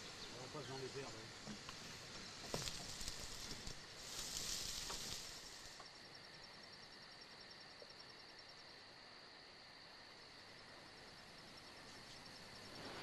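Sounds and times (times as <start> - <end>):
open-air ambience hiss: 0.0 - 13.0.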